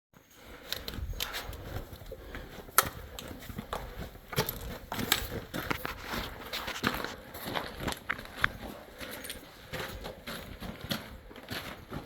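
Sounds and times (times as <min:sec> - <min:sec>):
footsteps crunching on sand and grit: 0:01.3 - 0:12.0.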